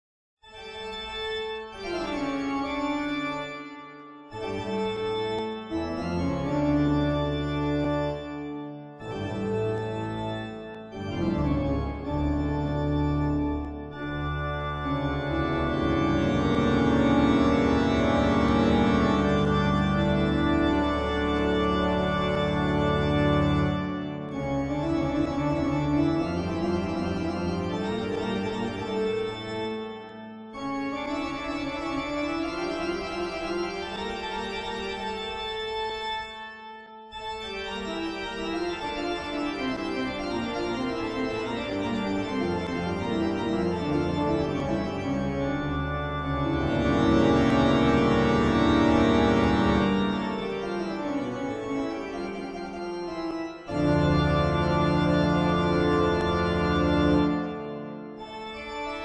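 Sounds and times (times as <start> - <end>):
music of long held chords: 0.5 - 59.0.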